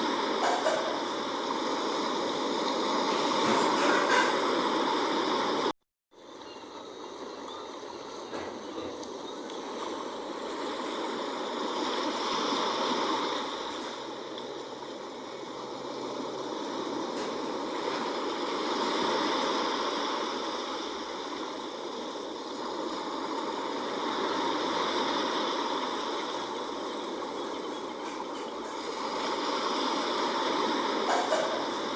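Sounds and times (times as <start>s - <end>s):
sea waves washing in: 0.0s - 31.9s.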